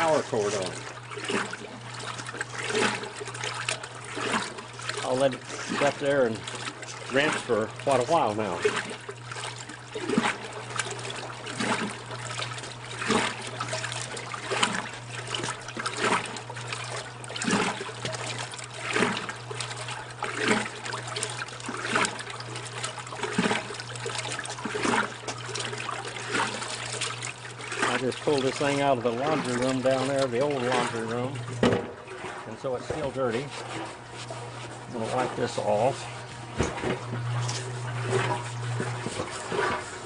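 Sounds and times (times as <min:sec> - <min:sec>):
washing machine motor hum: 0:00.0 - 0:40.0
water sloshing: 0:00.0 - 0:40.0.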